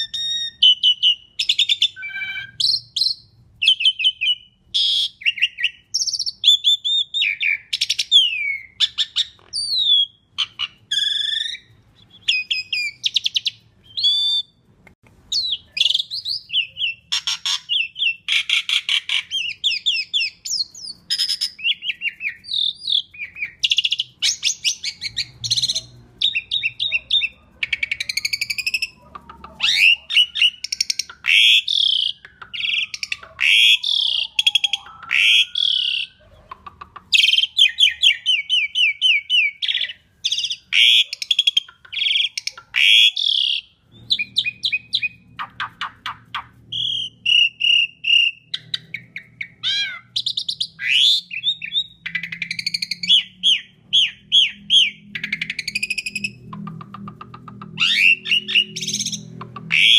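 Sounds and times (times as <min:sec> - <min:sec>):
starling singing: 0:00.0 - 0:14.6, 0:15.3 - 0:59.9.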